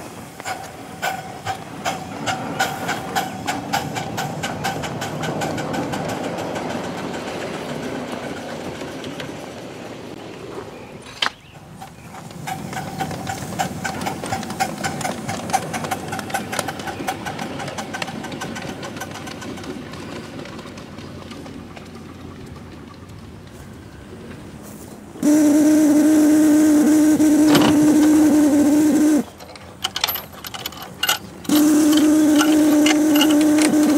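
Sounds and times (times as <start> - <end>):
steam locomotive running: 0.0 - 33.9.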